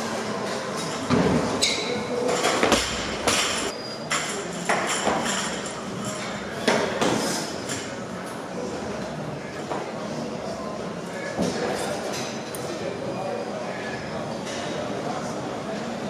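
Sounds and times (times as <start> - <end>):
gym background noise: 0.0 - 16.0.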